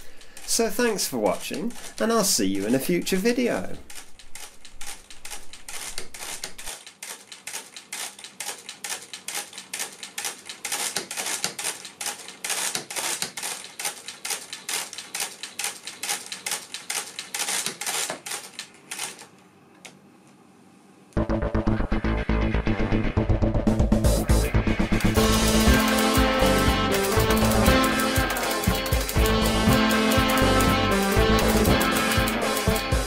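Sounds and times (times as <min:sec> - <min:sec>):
mechanical calculator clicking: 0:00.0 - 0:19.3, 0:25.0 - 0:33.0.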